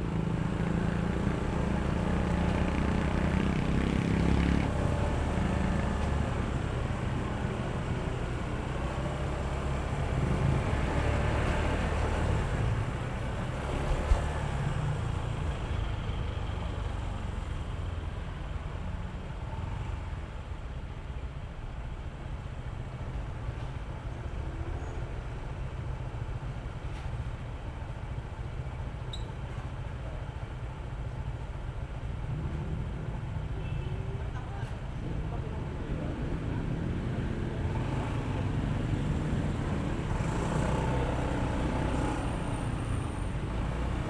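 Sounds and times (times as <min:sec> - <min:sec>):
road and wind rumble: 0:00.0 - 0:44.0.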